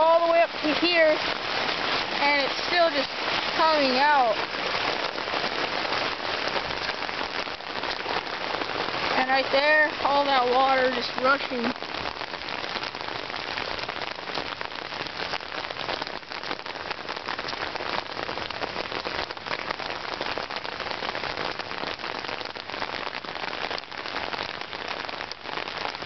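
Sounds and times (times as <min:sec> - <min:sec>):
heavy rain pouring: 0:00.0 - 0:26.0
rushing floodwater: 0:00.0 - 0:26.0.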